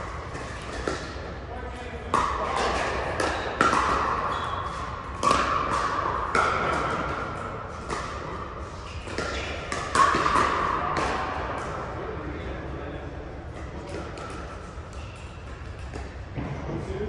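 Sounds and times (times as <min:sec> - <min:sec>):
paddles hitting ball: 0:00.0 - 0:11.9, 0:13.5 - 0:16.8.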